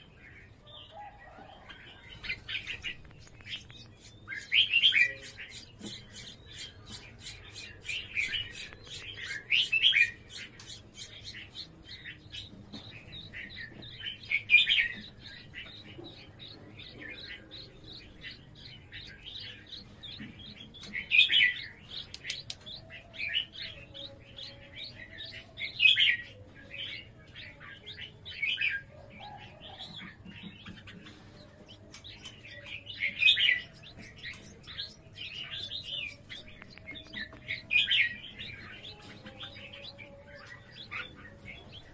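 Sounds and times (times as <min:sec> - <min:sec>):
birds chirping rapidly: 0:00.0 - 0:41.9.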